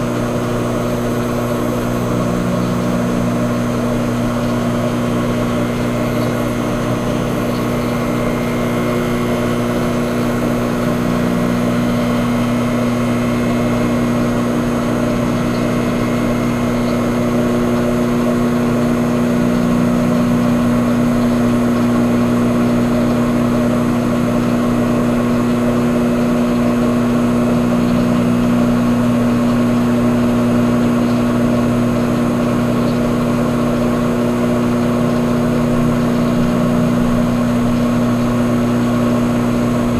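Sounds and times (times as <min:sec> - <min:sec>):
motor droning hum: 0:00.0 - 0:39.9.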